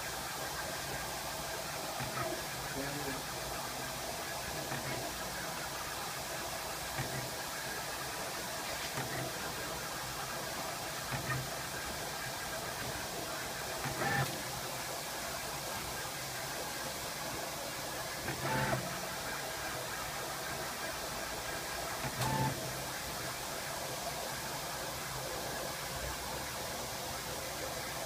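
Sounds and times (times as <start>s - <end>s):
cutting plotter hissing: 0.0s - 28.0s.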